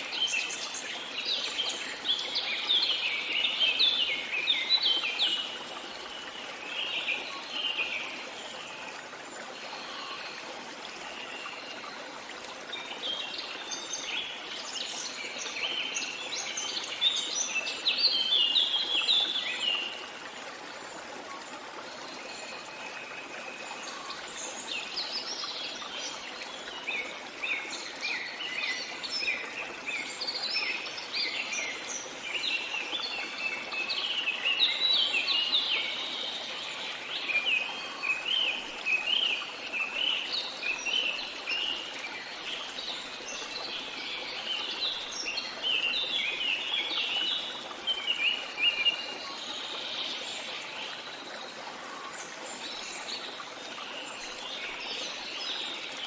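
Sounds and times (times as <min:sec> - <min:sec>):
flowing water rush: 0:00.0 - 0:56.0.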